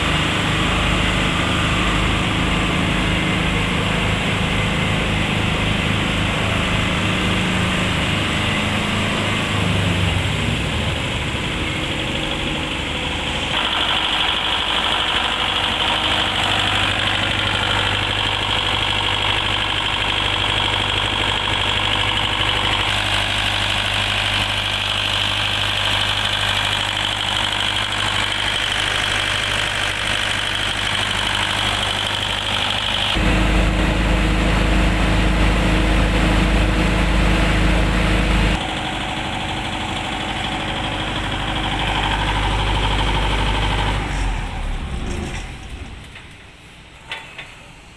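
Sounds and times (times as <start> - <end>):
diesel generator engine running: 0.0 - 47.9.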